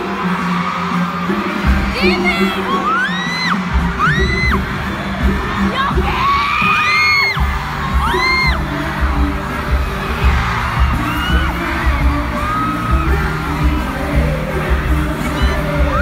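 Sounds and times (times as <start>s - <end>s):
fans screaming: 0.0s - 16.0s
pop concert music with heavy bass: 0.0s - 16.0s.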